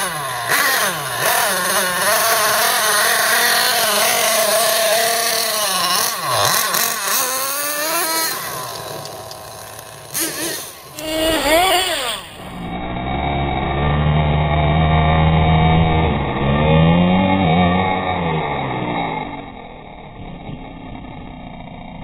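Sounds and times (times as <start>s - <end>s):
toy truck engine revving: 0.0s - 22.0s.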